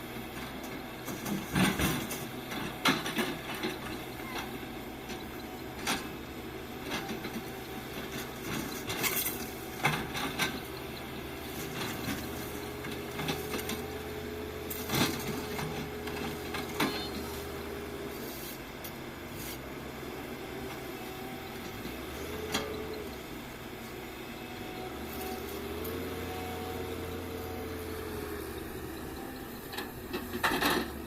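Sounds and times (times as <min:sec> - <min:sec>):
excavator engine hum: 0:00.0 - 0:31.0.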